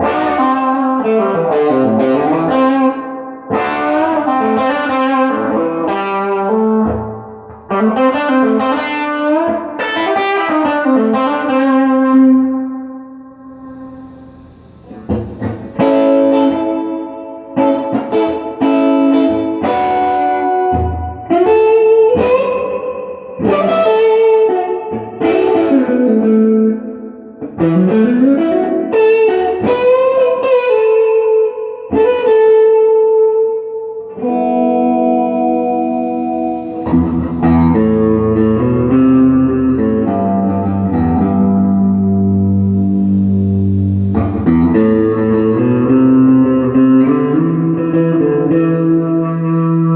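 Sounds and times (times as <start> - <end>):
electric guitar through reverb: 0.0 - 49.9.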